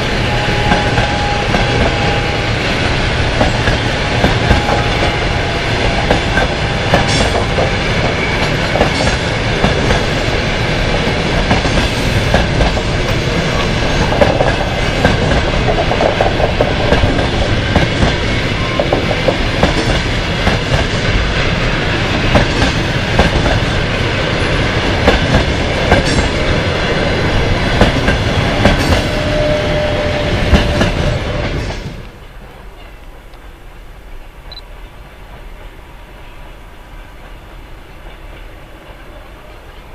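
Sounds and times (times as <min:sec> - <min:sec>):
train wheels clattering on rails: 0:00.0 - 0:33.2.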